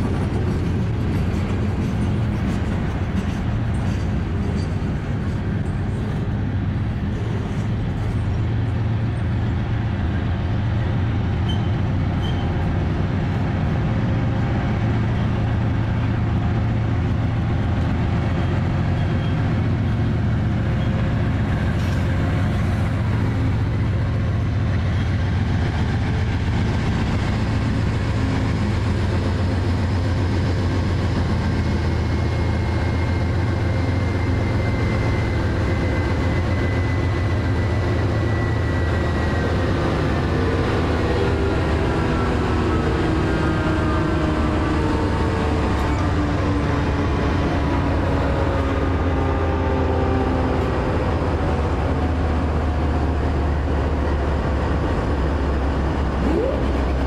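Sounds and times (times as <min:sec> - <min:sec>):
diesel locomotive engine droning: 0:00.0 - 0:57.0
train cars rumbling: 0:00.0 - 0:57.0.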